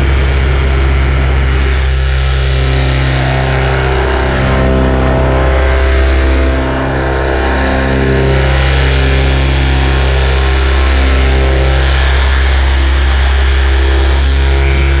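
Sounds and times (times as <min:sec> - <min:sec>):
paramotor engine and propeller: 0:00.0 - 0:15.0.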